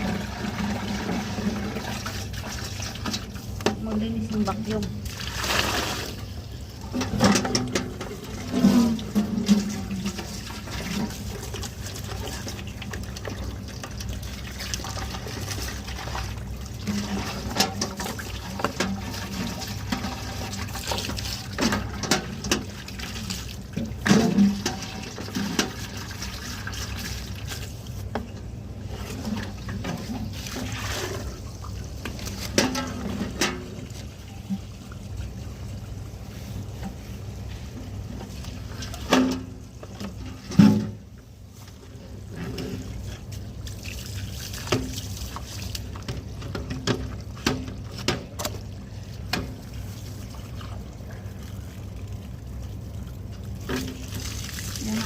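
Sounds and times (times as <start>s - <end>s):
water running and splashing: 0.0s - 40.6s, 41.5s - 55.0s.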